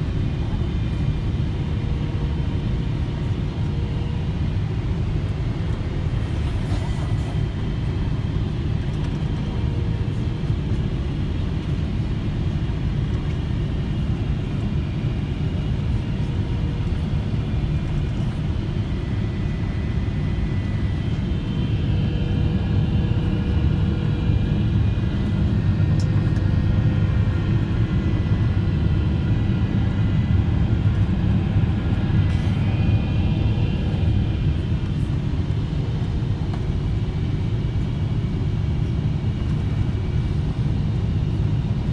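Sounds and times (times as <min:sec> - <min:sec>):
low rumble of engines and airflow: 0:00.0 - 0:41.9.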